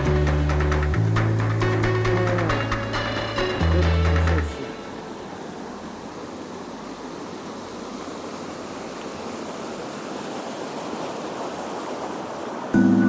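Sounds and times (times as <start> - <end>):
river water rushing over riffle: 0.0 - 13.0.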